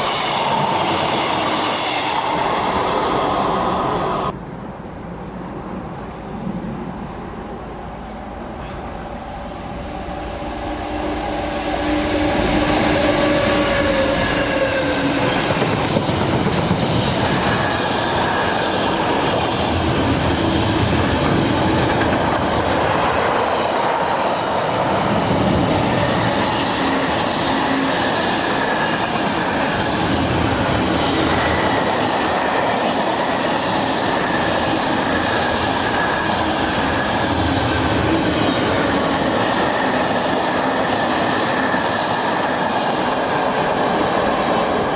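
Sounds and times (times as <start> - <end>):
high whine of train: 0.0 - 44.9
train wheels rumbling on rails: 0.0 - 44.9.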